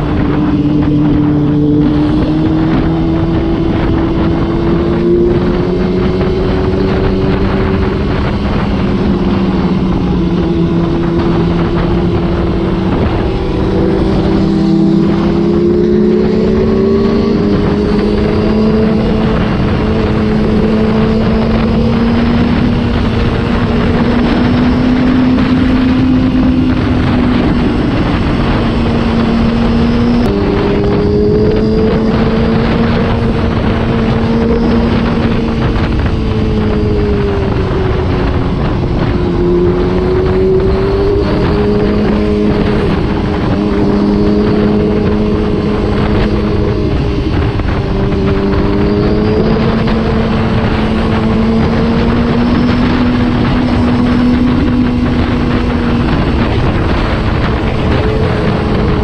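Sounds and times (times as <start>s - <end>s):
motorcycle engine droning: 0.0s - 59.0s
rushing wind noise: 0.0s - 59.0s.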